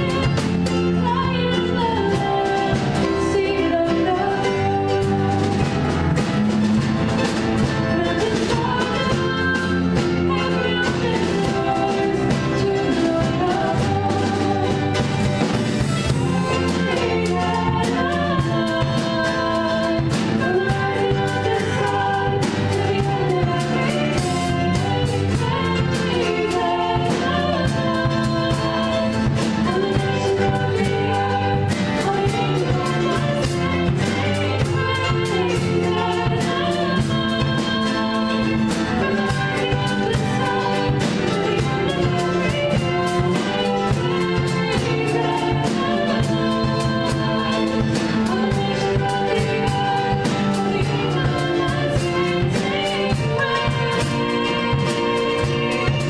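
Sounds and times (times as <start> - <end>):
woman singing: 0.0 - 6.2, 6.8 - 56.0
acoustic guitar: 0.0 - 56.0
cello: 0.0 - 56.0
drum kit with cymbals: 0.0 - 56.0
small strummed stringed instrument: 0.0 - 56.0.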